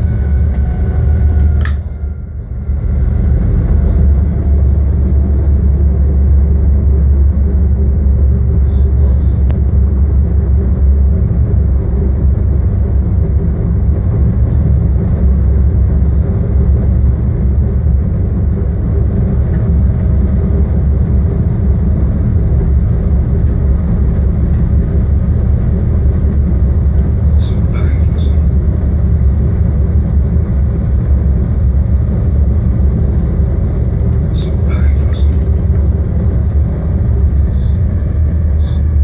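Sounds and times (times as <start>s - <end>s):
locomotive rumble in tunnel: 0.0s - 39.0s.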